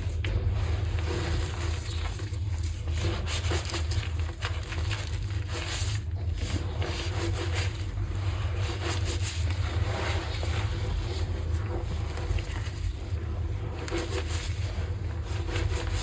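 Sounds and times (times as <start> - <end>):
chalk crunching by hand: 0.0 - 16.0
low rumble: 0.0 - 16.0.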